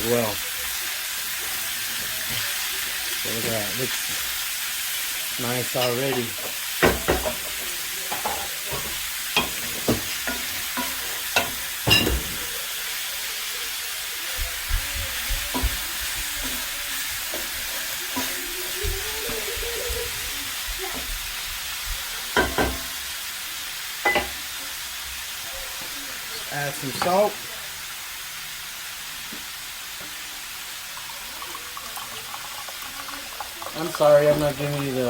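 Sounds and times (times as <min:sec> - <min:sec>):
meat frying in oil: 0:00.0 - 0:35.0.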